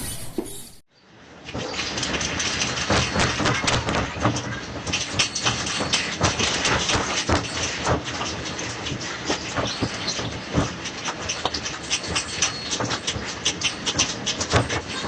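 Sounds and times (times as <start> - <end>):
objects rattling and clattering: 1.5 - 15.0.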